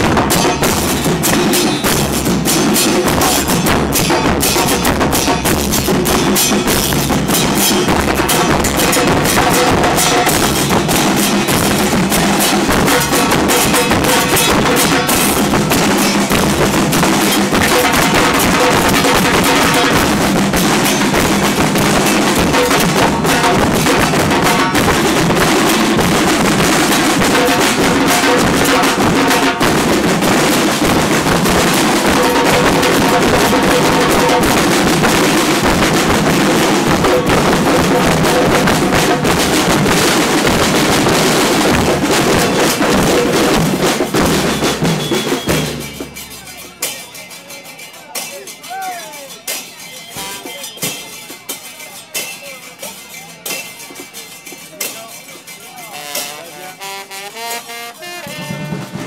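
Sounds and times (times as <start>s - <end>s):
drum group playing: 0.0s - 59.0s.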